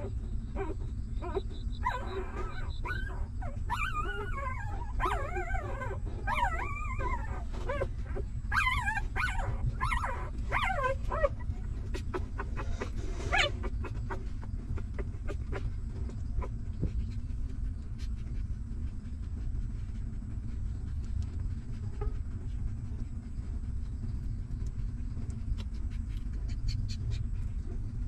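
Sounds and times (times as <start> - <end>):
puppies whimpering and squealing: 0.0 - 23.8
low rumble: 0.0 - 28.0.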